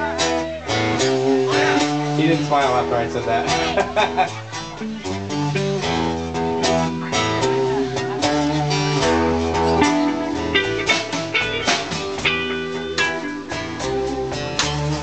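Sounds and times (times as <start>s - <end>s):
acoustic guitar: 0.0s - 15.0s
drum kit beat: 0.0s - 15.0s
electric guitar: 0.0s - 15.0s.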